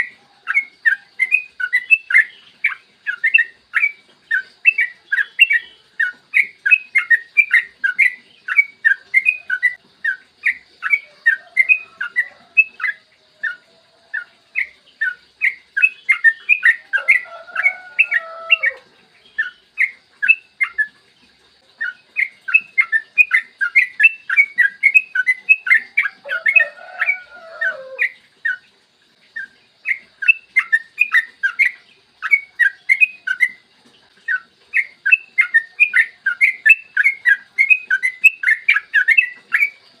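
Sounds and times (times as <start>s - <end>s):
bulbul chattering song: 0.0s - 40.0s.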